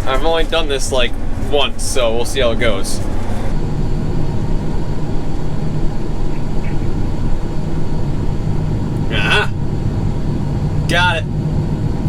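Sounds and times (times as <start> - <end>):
diesel engine low drone: 0.0 - 12.0.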